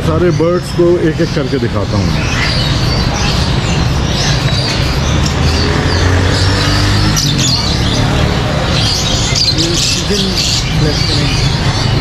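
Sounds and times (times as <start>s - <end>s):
birds chirping and tweeting: 0.0s - 12.0s.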